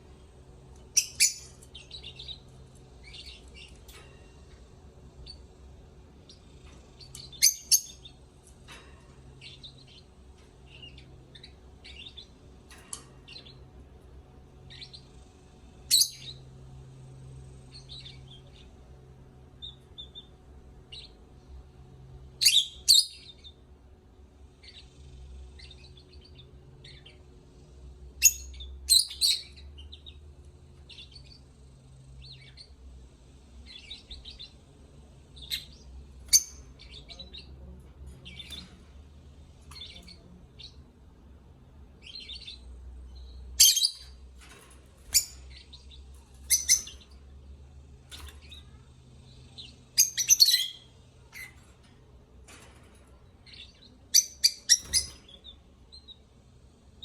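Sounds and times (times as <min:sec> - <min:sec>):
lovebirds chirping: 0:00.0 - 0:23.6, 0:24.5 - 0:32.9, 0:33.5 - 0:57.0.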